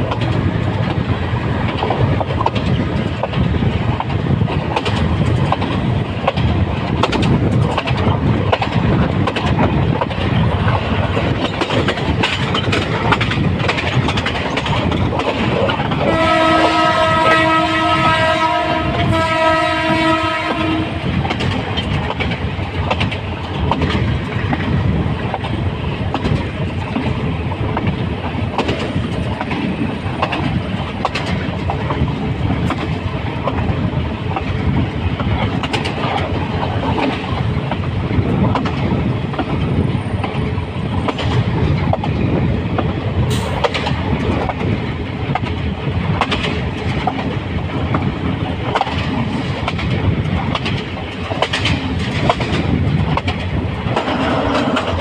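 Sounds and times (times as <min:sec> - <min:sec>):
wheels clicking over rail joints: 0:00.0 - 0:17.5, 0:21.1 - 0:55.0
train rumbling on rails: 0:00.0 - 0:55.0.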